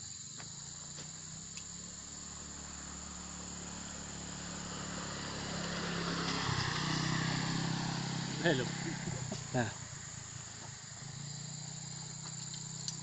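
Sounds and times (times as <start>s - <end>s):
insects trilling: 0.0s - 13.0s
low engine hum: 0.0s - 13.0s.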